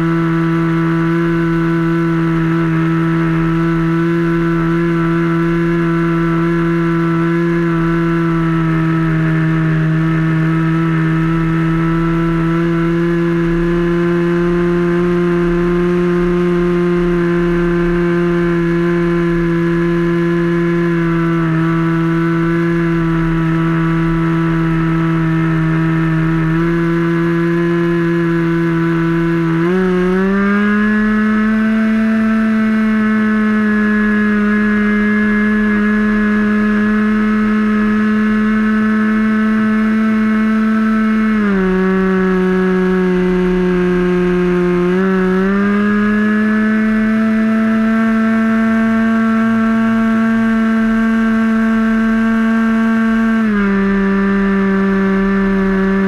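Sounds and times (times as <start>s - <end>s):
model airplane engine running: 0.0s - 56.0s.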